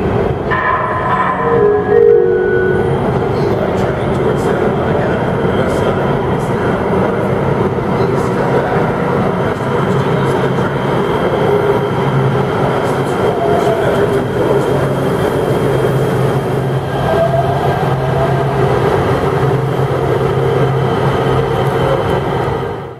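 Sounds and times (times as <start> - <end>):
train running hum: 0.0 - 22.9.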